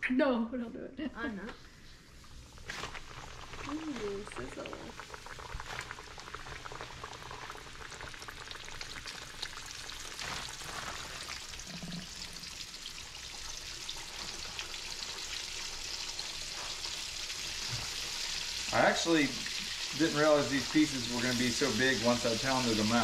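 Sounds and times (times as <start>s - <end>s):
meat deep-frying in oil: 2.1s - 23.0s.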